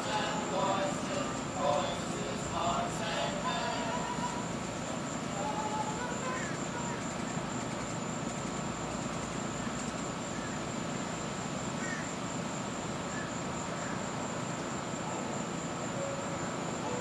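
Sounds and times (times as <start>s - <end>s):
outdoor background noise: 0.0s - 17.0s
thin high whine: 0.0s - 17.0s.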